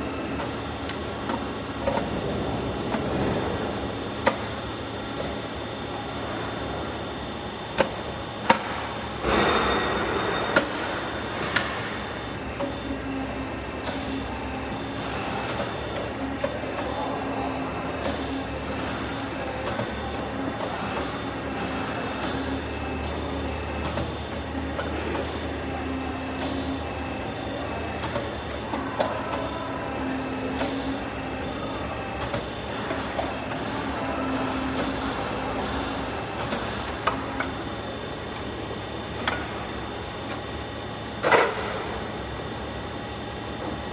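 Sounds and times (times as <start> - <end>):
machinery humming: 0.0 - 43.9.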